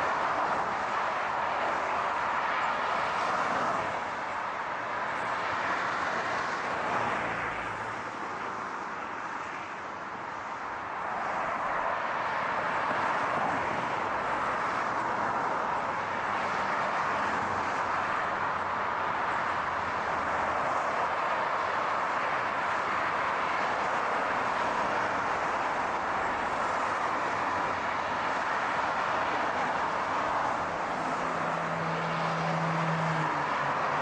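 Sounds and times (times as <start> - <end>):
road noise of cars: 0.0 - 34.0.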